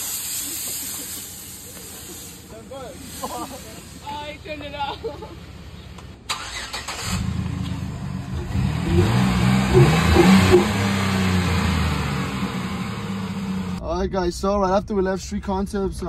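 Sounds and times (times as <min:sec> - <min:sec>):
pickup engine starting and revving: 0:00.0 - 0:13.8.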